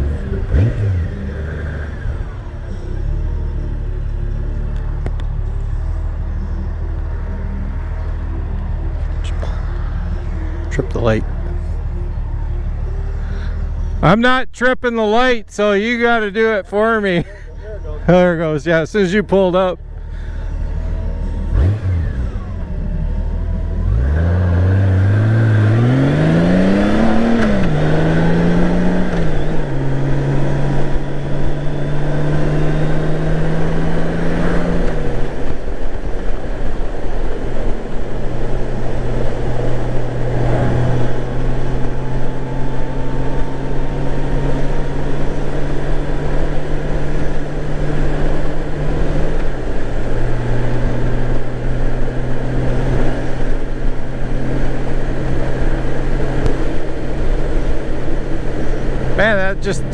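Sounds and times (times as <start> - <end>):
motorcycle engine accelerating: 0.0 - 14.0, 19.4 - 59.9.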